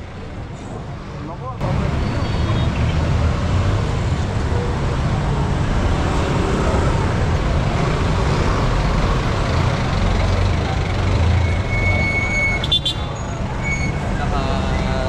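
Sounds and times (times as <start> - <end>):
street traffic rumble: 0.0 - 15.0
motorcycle engines passing: 1.6 - 15.0.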